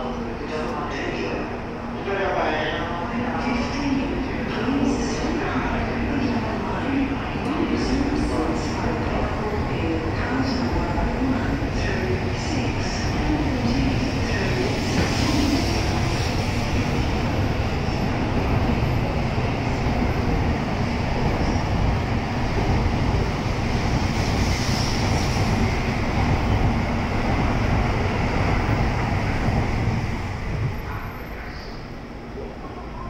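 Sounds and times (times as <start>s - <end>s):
train wheels on rail: 3.6s - 31.9s.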